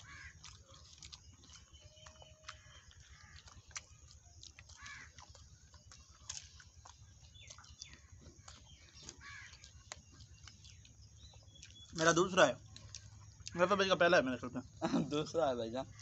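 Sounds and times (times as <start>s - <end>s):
bird calling: 0.0s - 16.0s
people chewing: 0.0s - 16.0s.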